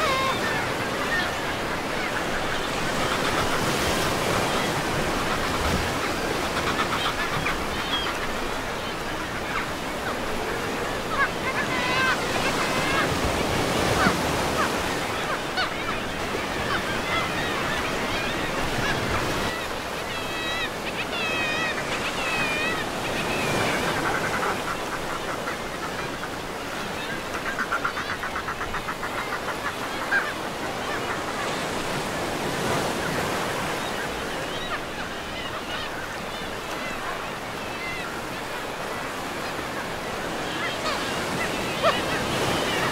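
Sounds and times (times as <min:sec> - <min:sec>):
gulls calling: 0:00.0 - 0:42.9
sea surf breaking on beach: 0:00.0 - 0:42.9.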